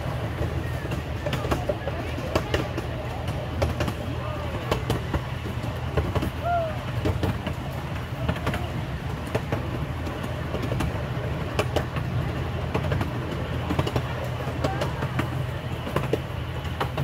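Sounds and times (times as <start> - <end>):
ride train rumbling: 0.0 - 17.0
wheels clicking and knocking: 0.0 - 17.0.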